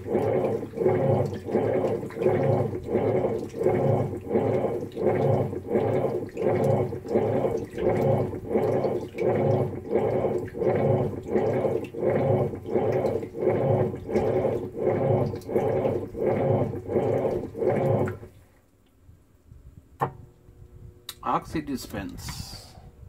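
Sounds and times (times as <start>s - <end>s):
washing machine agitating laundry: 0.0s - 18.6s.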